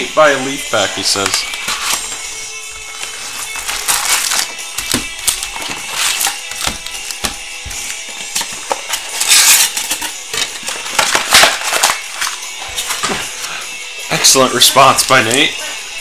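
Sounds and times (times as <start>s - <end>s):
faint background music: 0.0s - 16.0s
card packaging tearing and crinkling: 0.8s - 13.6s.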